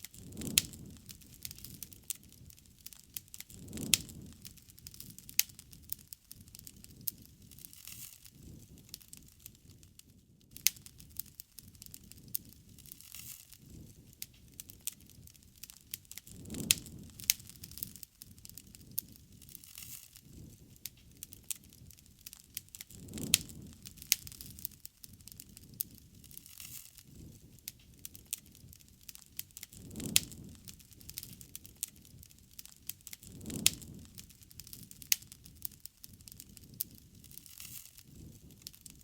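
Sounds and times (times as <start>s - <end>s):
low rush of flames: 0.0s - 39.0s
wood fire crackling and popping: 0.0s - 39.0s.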